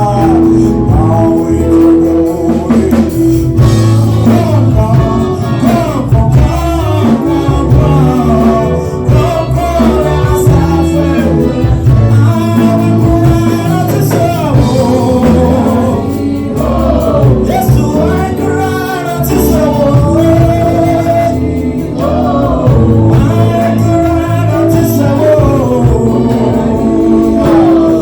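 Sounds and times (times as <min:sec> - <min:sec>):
bass accompaniment: 0:00.0 - 0:28.0
gospel choir singing: 0:00.0 - 0:28.0.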